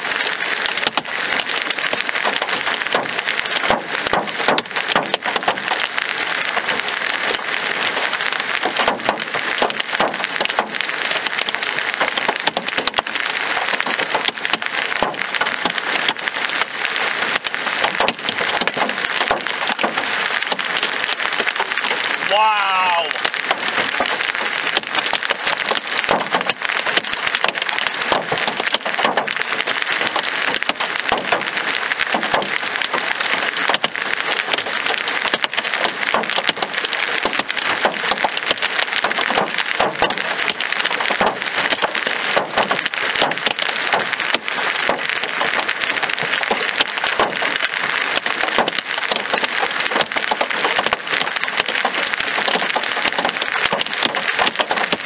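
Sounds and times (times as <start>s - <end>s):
hailstones pelting: 0.0s - 55.0s
rain hiss: 0.0s - 55.0s.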